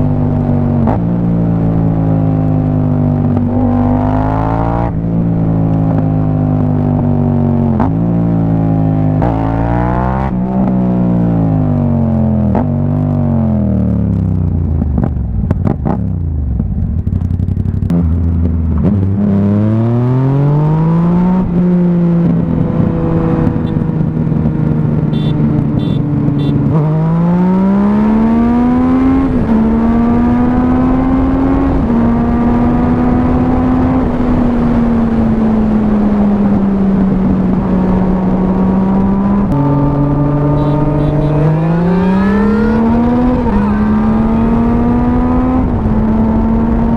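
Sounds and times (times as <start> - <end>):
motorcycle engine revving and shifting: 0.0 - 46.9.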